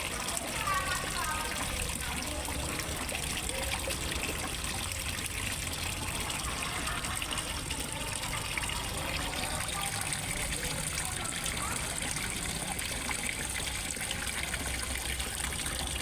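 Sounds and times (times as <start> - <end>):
water pouring into pond: 0.0 - 16.0.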